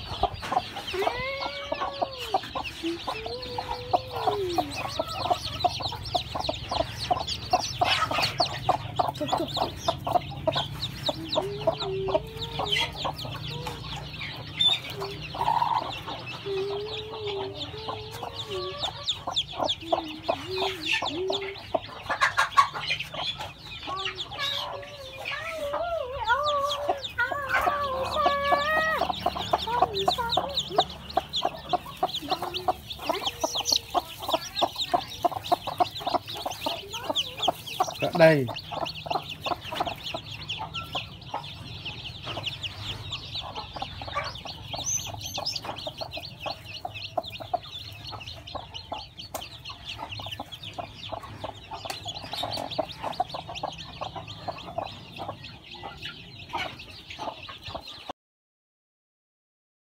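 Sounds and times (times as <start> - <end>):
chicks peeping: 0.0 - 58.1
hen clucking: 0.0 - 58.1.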